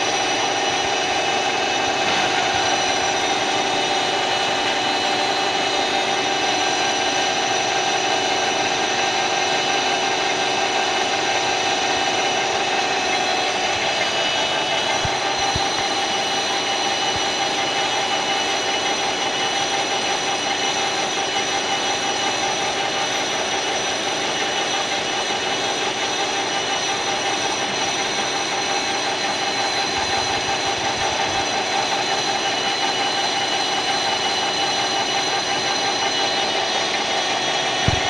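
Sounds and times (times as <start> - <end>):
high machine whines: 0.0 - 38.0
lathe machine drone: 0.0 - 38.0.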